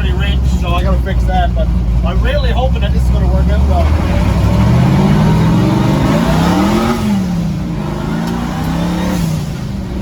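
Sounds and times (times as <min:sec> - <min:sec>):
truck engine accelerating hard: 0:00.0 - 0:10.0.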